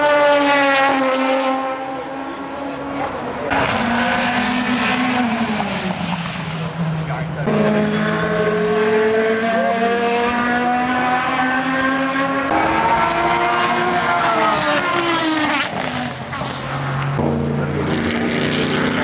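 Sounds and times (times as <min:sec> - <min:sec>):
race car engines at speed: 0:00.0 - 0:19.0
race car passing by: 0:00.0 - 0:19.0.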